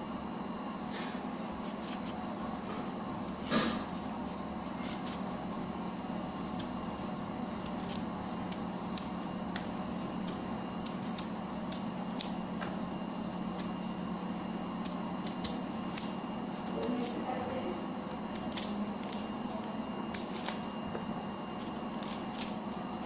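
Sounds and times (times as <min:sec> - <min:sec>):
steady low hum: 0:00.0 - 0:23.0
root skin peeling crackles: 0:01.5 - 0:23.0.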